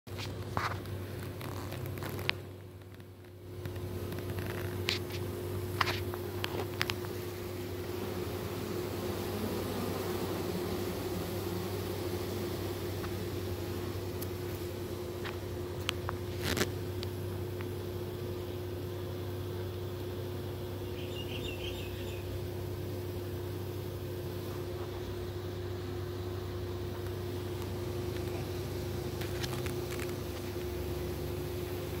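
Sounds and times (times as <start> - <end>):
bees buzzing: 3.0 - 32.0.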